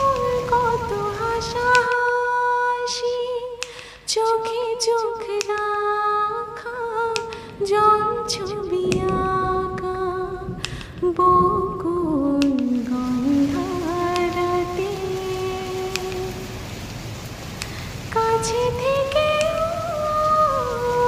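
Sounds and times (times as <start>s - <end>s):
woman singing: 0.0s - 16.6s, 18.1s - 21.0s.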